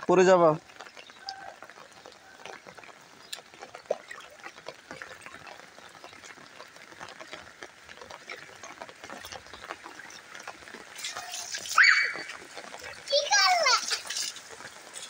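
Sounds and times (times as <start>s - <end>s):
rain falling on water: 0.0s - 15.0s.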